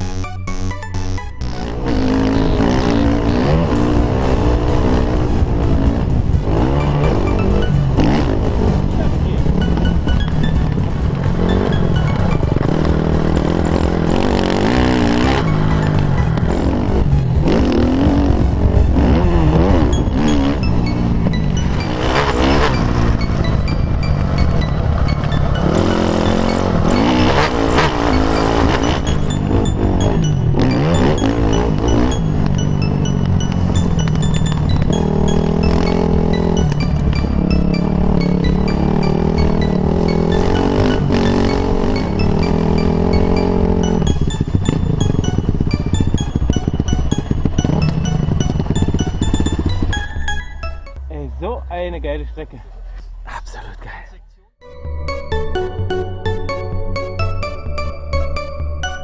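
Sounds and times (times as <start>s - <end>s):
background music: 0.0s - 52.7s, 54.6s - 59.0s
motocross bike engine revving: 1.4s - 52.5s.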